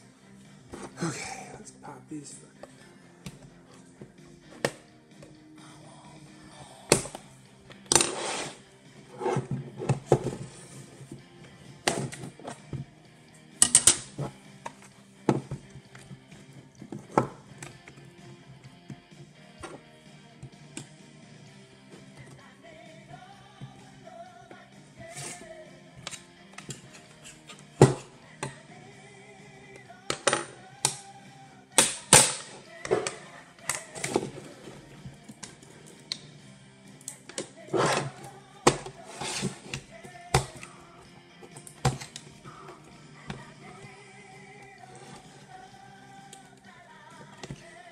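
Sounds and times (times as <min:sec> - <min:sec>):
quiet background music: 0:00.0 - 0:47.9.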